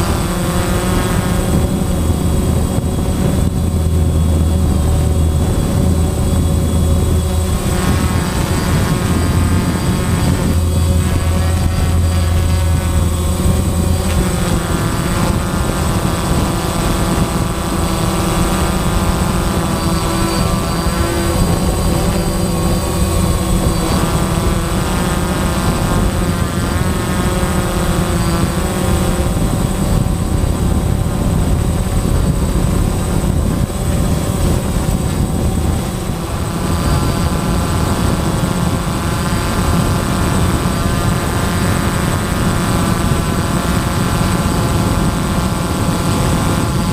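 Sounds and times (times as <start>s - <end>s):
drone propellers whining: 0.0s - 46.9s
wind and prop wash: 0.0s - 46.9s.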